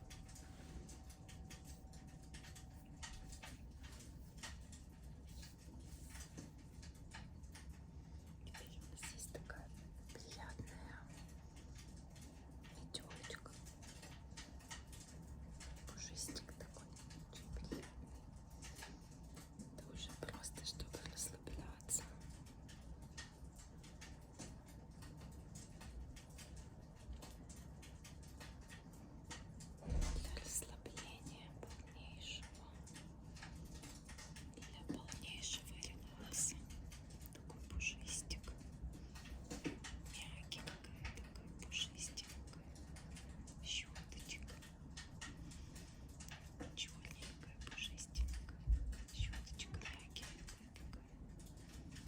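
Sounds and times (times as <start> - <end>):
low fire rumble: 0.0 - 52.0
low hum: 0.0 - 52.0
wood fire popping and snapping: 0.0 - 52.0.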